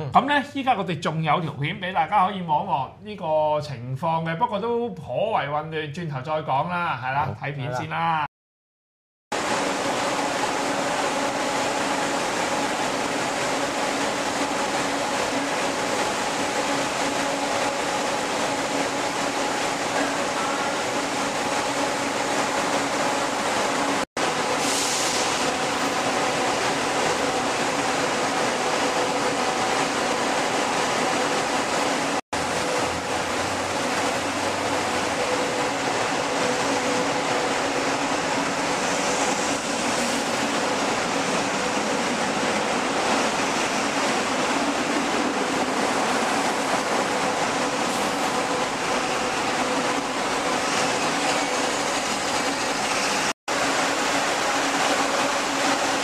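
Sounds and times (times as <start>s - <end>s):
echoing rumble of buses: 9.4s - 56.0s.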